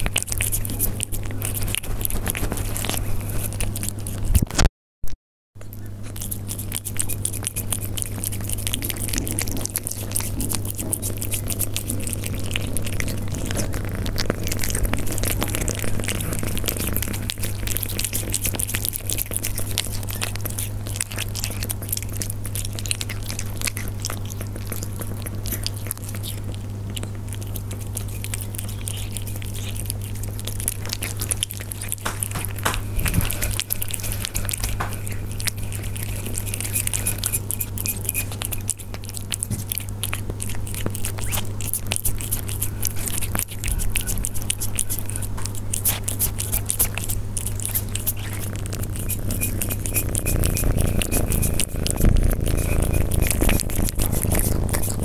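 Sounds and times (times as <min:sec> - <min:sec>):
steady low hum: 0:00.0 - 0:04.5, 0:05.6 - 0:55.0
cats chewing and crunching food: 0:00.0 - 0:04.7, 0:05.6 - 0:55.0.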